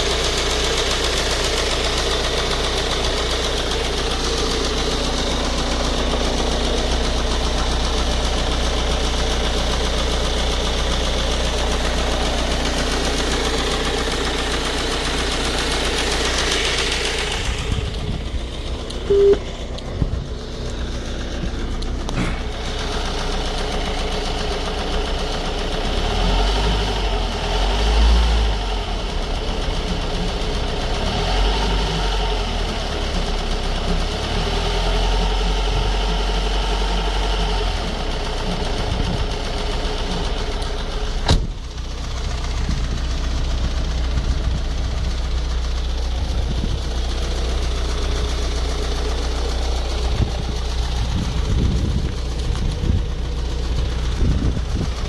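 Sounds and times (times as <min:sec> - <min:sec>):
diesel engine knocking rattle: 0:00.0 - 0:55.0.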